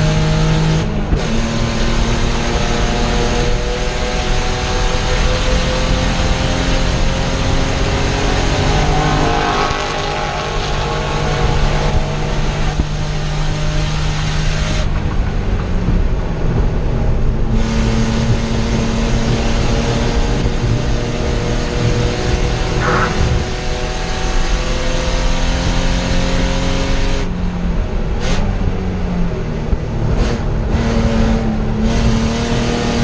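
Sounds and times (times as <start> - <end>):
race car engine running hard: 0.0 - 33.0.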